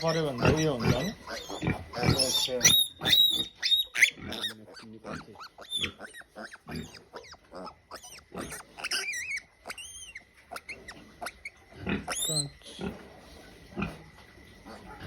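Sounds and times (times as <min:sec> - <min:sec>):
pig grunting: 0:00.0 - 0:09.2, 0:10.5 - 0:15.0
pig squealing: 0:00.0 - 0:13.1.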